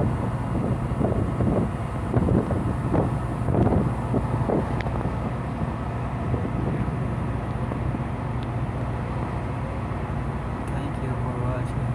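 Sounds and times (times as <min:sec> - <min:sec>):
boat engine running: 0:00.0 - 0:11.9.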